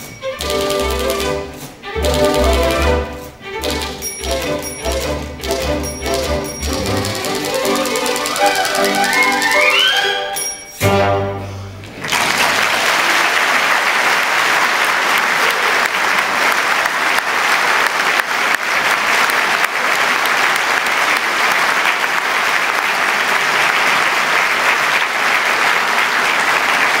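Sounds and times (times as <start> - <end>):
audience applauding: 3.8 - 10.3, 11.8 - 27.0.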